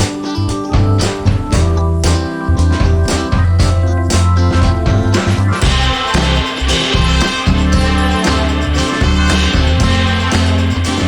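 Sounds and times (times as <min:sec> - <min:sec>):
music with plucked guitar and bass: 0:00.0 - 0:11.0.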